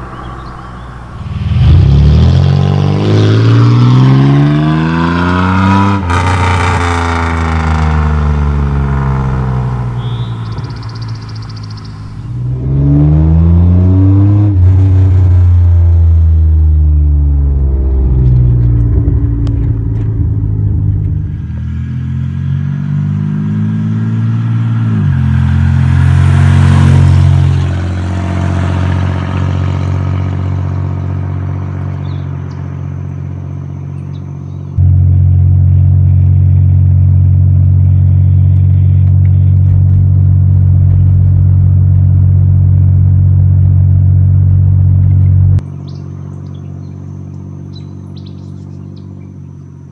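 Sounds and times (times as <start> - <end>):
car exhaust accelerating: 0.0 - 49.9
low engine drone: 0.0 - 49.9.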